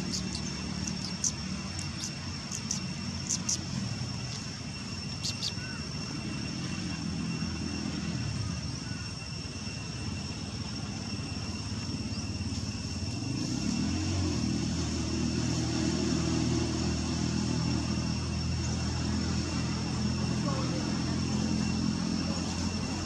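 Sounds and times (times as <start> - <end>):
faint high-pitched whines: 0.0 - 23.0
vehicle engine hum: 0.0 - 23.0.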